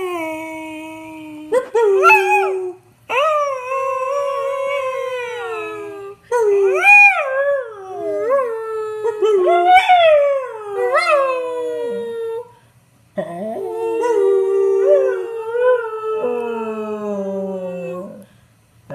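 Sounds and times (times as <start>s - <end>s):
dog howling: 1.8s - 12.4s, 13.2s - 18.2s.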